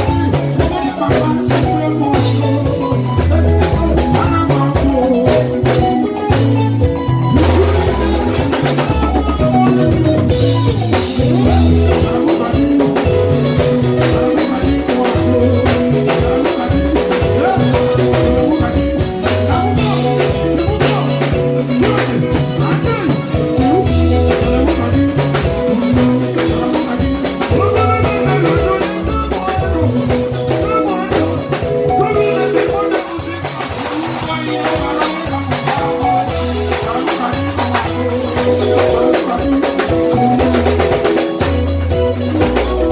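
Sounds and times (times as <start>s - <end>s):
bass notes: 0.0s - 42.9s
drum kit steady beat: 0.0s - 42.9s
guitars playing melodic lines: 0.0s - 42.9s.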